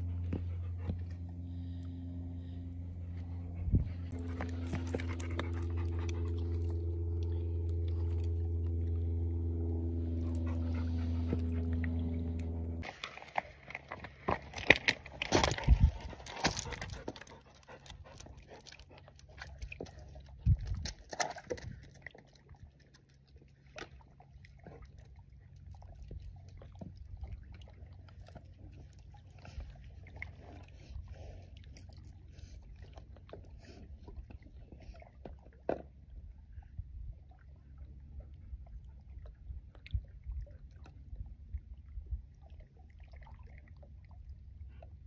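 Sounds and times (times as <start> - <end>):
low steady rumble: 0.0 - 45.0.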